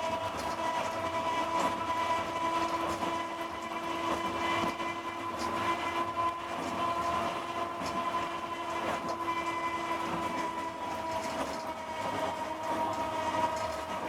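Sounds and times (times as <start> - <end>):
streetcar motor whine: 0.0 - 14.0.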